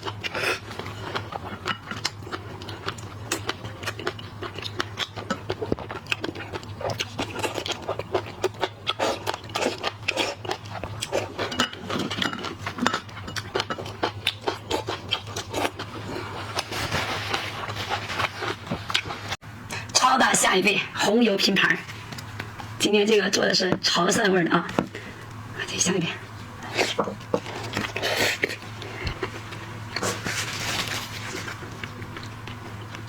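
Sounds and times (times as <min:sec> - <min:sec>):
chewing and crunching shellfish: 0:00.0 - 0:19.9, 0:26.3 - 0:33.0.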